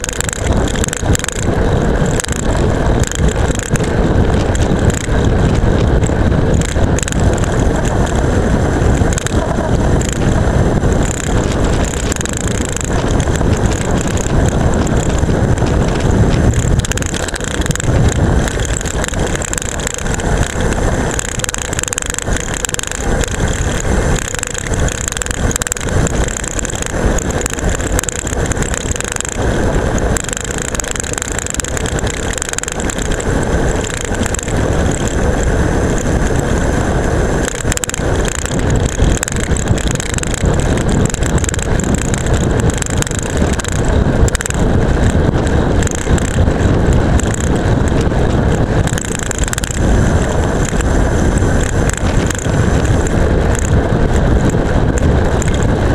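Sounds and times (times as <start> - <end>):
camera rattling in mount: 0.0 - 8.3, 8.9 - 36.6, 37.4 - 55.9
tyre noise on asphalt: 0.0 - 55.9
wind rush: 0.0 - 55.9.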